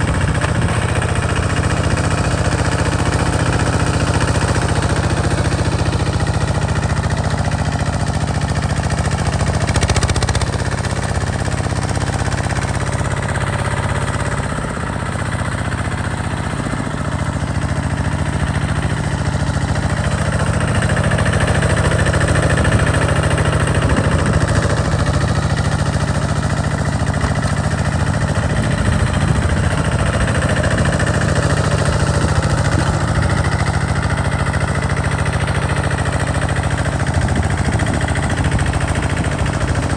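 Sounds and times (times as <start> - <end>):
tractor engine under load: 0.0 - 39.9.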